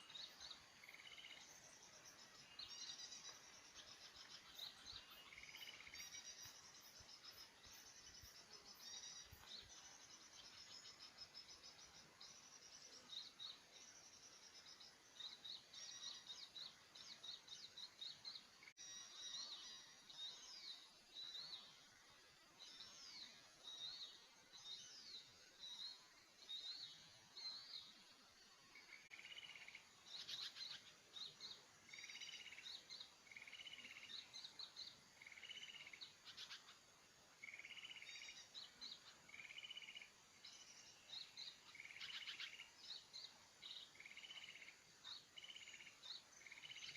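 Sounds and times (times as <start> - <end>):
small birds chirping and trilling: 0.0 - 46.9.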